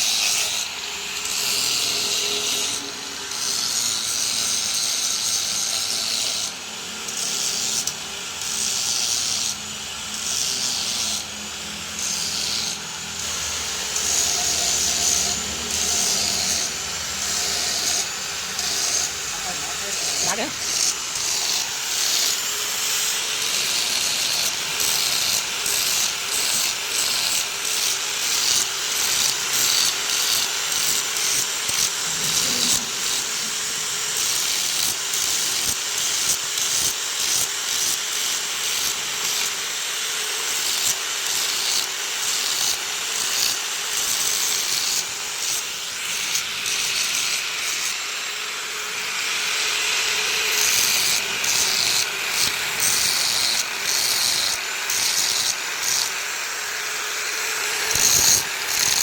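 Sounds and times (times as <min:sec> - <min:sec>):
rasping metal grinding: 0:00.0 - 0:06.5, 0:07.1 - 0:36.9, 0:40.5 - 0:56.2, 0:57.2 - 0:59.0.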